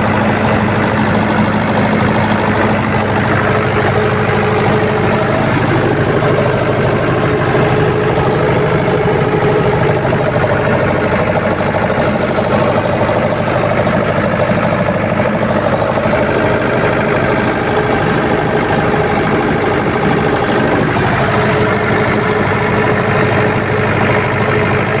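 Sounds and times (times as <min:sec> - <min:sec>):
generator engine humming: 0:00.0 - 0:25.0.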